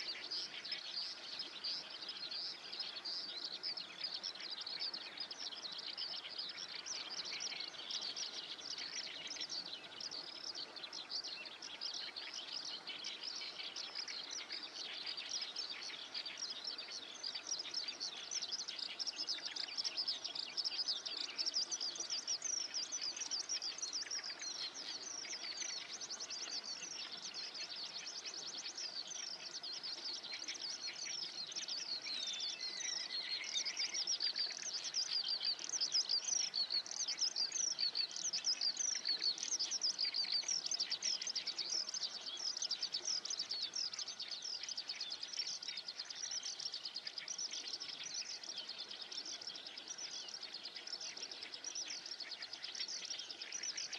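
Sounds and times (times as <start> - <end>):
songbirds chirping and singing: 0.0 - 53.9.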